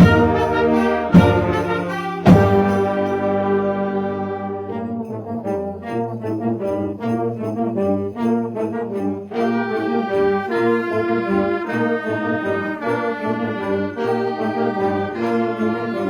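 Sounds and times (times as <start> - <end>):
marching band brass chords: 0.0 - 16.0.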